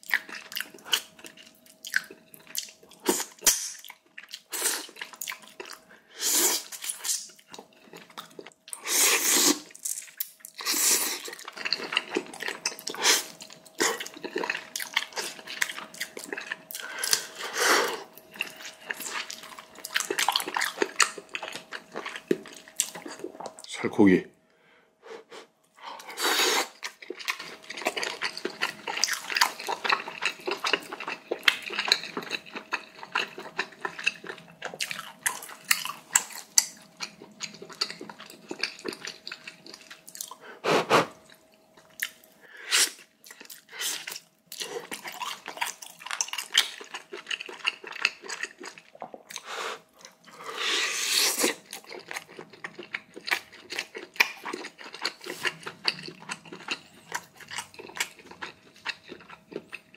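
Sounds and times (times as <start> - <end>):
person chewing and crunching: 0.0 - 23.6, 25.8 - 59.9.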